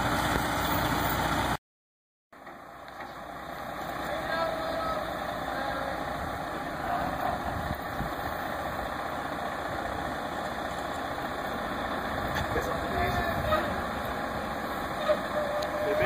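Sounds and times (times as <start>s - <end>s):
heavy truck engines running: 0.0s - 1.6s, 2.4s - 16.0s.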